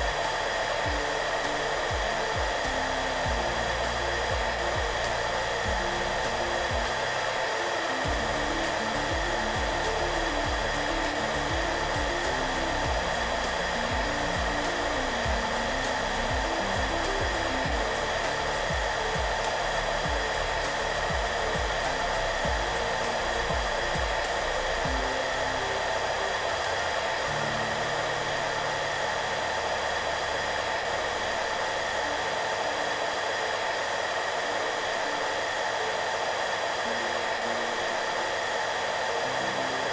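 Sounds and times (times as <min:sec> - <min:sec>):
hairdryer blowing: 0:00.0 - 0:39.9
soft background music: 0:00.0 - 0:39.9.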